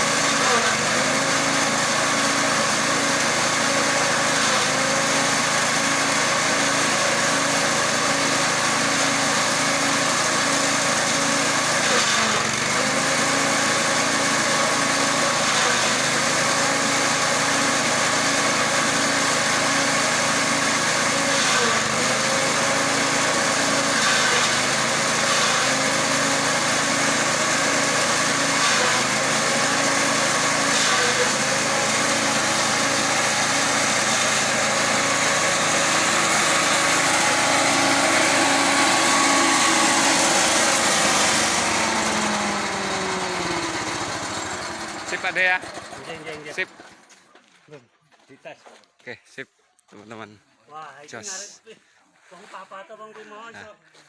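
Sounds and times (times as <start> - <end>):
grass chopper engine running: 0.0 - 47.3.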